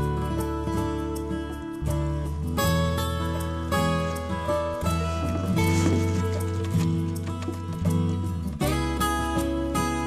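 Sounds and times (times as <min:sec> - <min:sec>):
plucked acoustic guitar music: 0:00.0 - 0:10.0.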